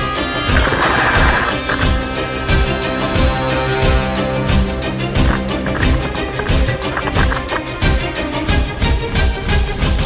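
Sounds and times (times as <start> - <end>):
epic war-style soundtrack music: 0.0 - 10.0.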